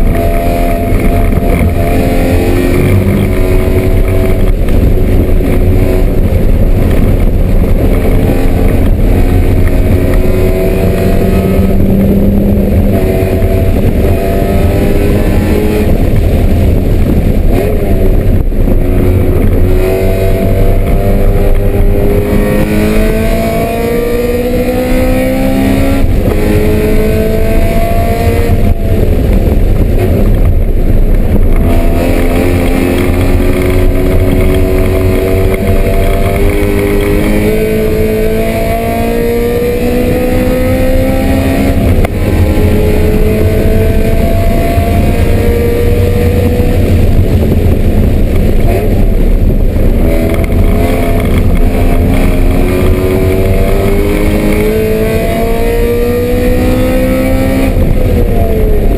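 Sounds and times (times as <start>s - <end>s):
race car engine pulling hard: 0.0s - 58.9s
steady low drone: 0.0s - 58.9s.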